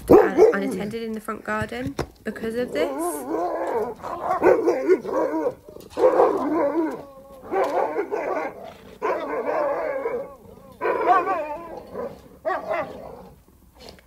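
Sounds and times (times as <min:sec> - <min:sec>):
dogs barking: 0:00.0 - 0:01.0, 0:02.5 - 0:13.4.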